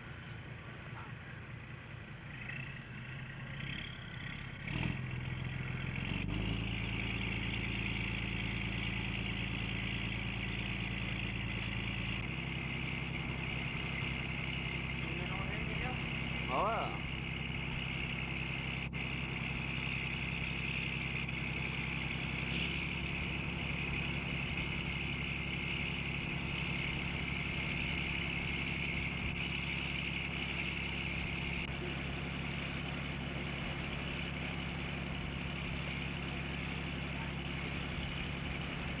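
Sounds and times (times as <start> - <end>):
boat engine running: 0.0 - 39.0
high mechanical whine: 0.0 - 39.0.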